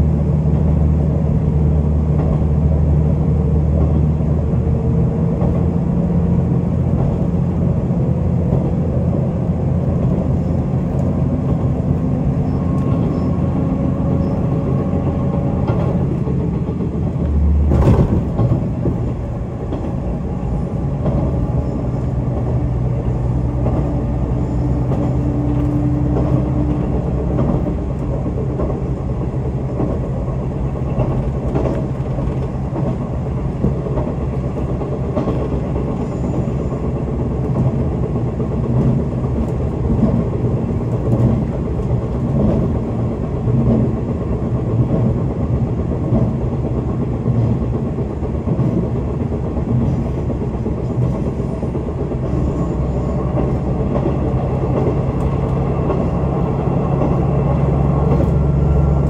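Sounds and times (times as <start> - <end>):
diesel engine drone: 0.0 - 59.0
wheel-on-rail rumble: 0.0 - 59.0.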